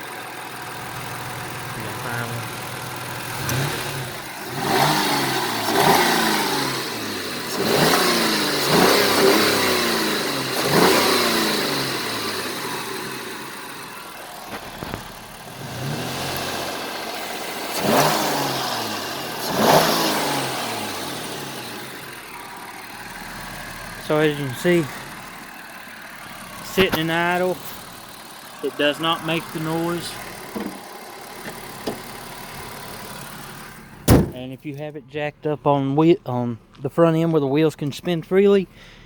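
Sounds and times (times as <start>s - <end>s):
car engine revving: 0.0s - 34.6s
car engine idling: 0.0s - 39.0s.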